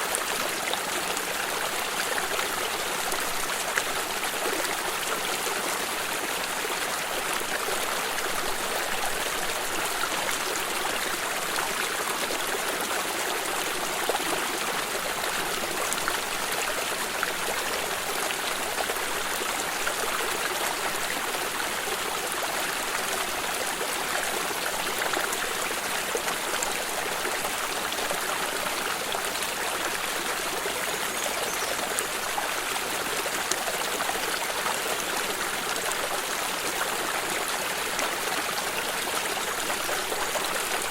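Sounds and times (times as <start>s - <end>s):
stream running and trickling: 0.0s - 40.9s.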